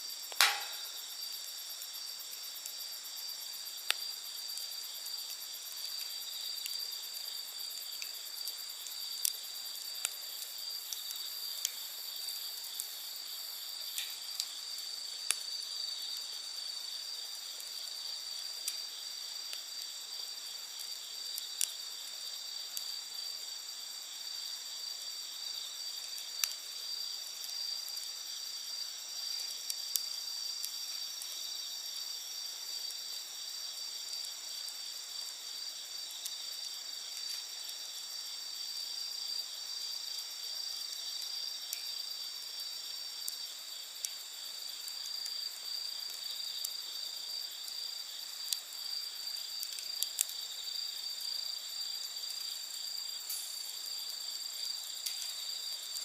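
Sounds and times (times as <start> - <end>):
campfire popping: 0.0 - 56.0
night insects trilling: 0.0 - 56.0.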